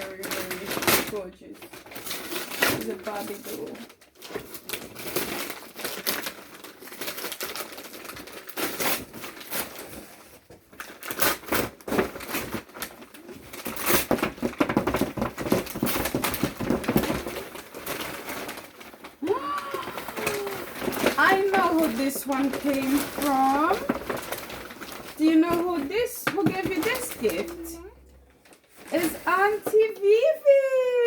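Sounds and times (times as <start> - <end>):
paper crinkling and tearing: 0.0 - 30.3.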